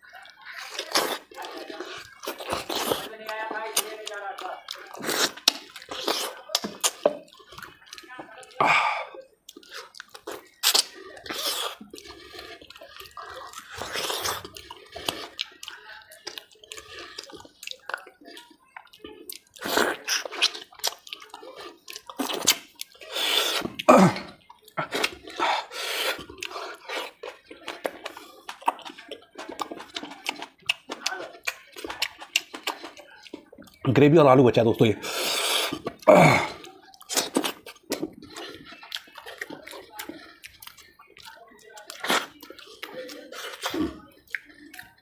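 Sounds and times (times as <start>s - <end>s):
wet chewing and lip-smacking: 0.0s - 45.0s.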